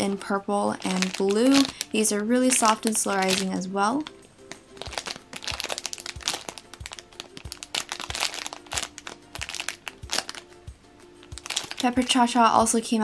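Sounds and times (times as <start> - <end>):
soft background music with beat: 0.0 - 13.0
plastic bag crinkling: 0.7 - 10.6, 11.2 - 12.2.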